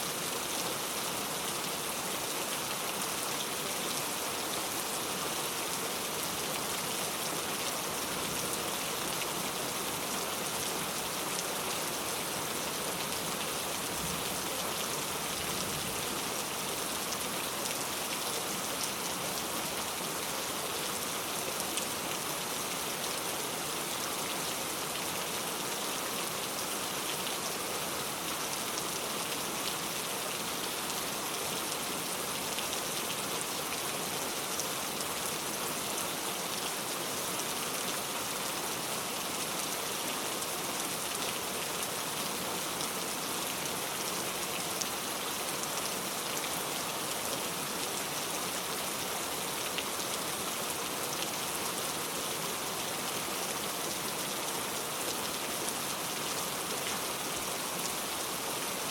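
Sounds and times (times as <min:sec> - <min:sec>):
steady rainfall: 0:00.0 - 0:58.9.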